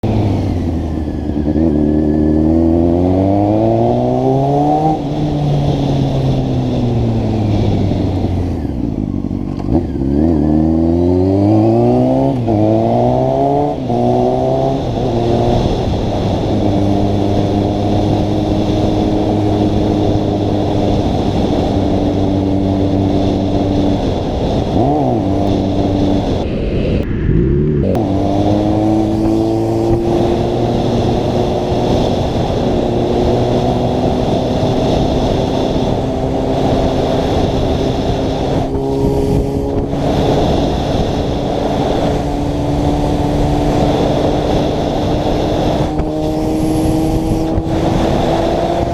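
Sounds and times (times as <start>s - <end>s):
engine revving: 0.0s - 48.9s.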